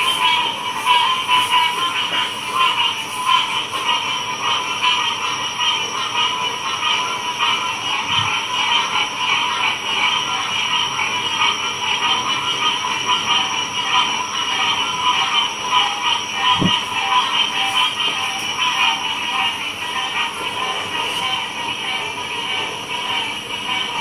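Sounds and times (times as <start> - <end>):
frog chorus: 0.0 - 24.0.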